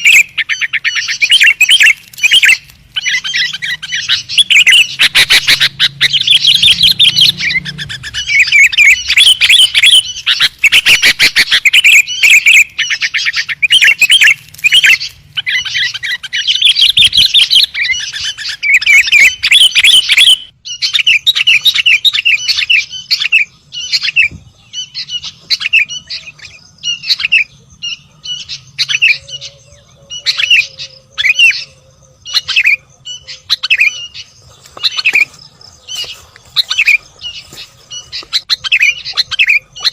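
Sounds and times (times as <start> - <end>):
bird chirping loudly: 0.0 - 39.9.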